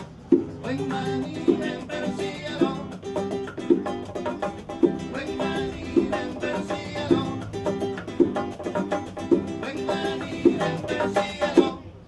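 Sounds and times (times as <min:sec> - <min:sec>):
acoustic guitar strumming: 0:00.0 - 0:11.9.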